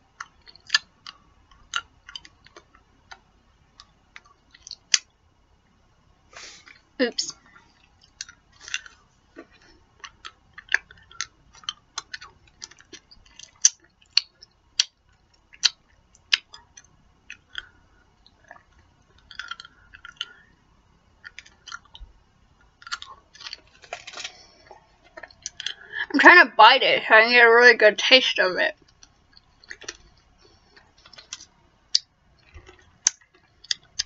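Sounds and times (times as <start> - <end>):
person chewing sticky candy: 0.1 - 5.1, 6.6 - 26.0, 28.8 - 34.0.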